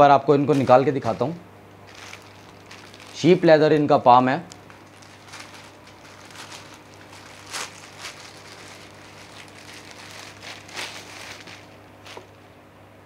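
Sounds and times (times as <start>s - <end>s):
plastic wrapping crinkling: 0.5s - 12.5s.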